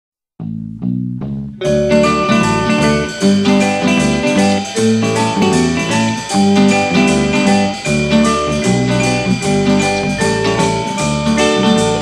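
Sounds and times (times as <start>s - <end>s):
instrumental pop music: 0.4s - 12.0s.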